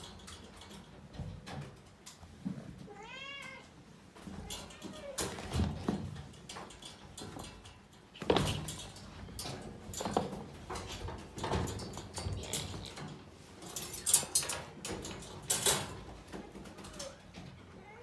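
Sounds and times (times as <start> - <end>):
cats knocking and rattling cage: 0.0 - 18.0.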